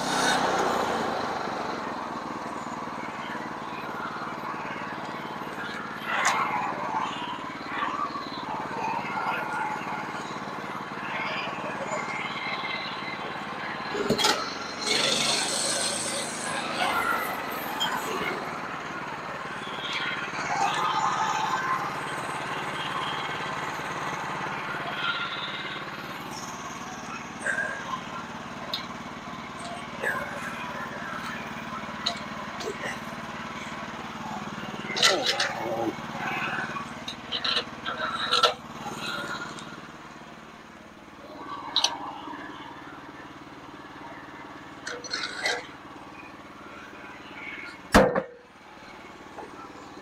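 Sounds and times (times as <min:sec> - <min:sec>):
small gas engine running: 0:00.0 - 0:50.0.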